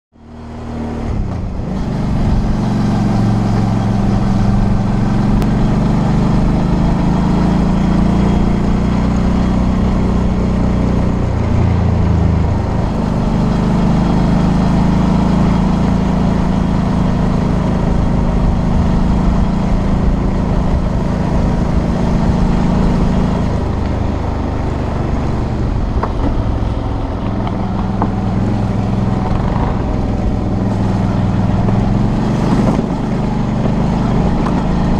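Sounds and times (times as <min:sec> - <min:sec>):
wind and road noise: 0:00.1 - 0:34.9
motorcycle engine running: 0:00.2 - 0:34.9.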